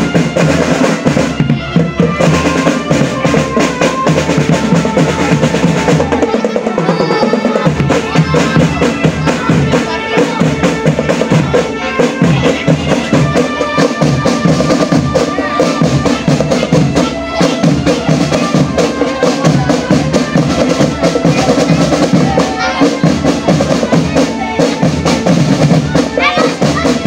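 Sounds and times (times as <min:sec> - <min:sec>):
bass and snare drums: 0:00.0 - 0:27.0
held melody line: 0:00.0 - 0:27.0.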